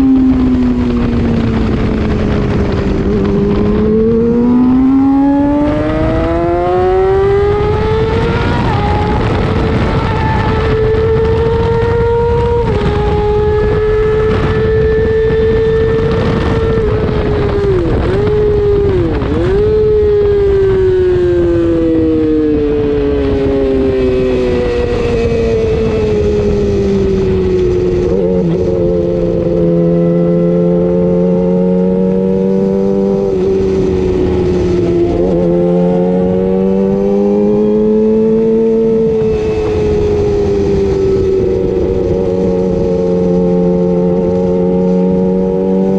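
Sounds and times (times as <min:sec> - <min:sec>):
race motorcycle engine: 0:00.0 - 0:45.9
wind rush: 0:00.0 - 0:45.9.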